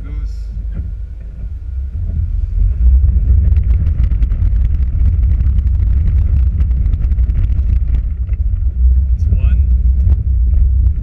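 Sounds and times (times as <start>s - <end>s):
vehicle rumbling through water: 0.0s - 11.0s.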